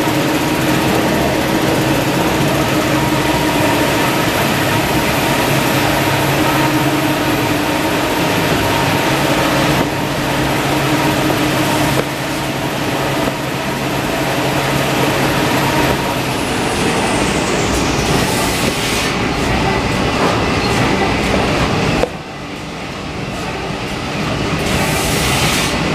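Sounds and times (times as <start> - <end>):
production line machine noise: 0.0 - 25.9.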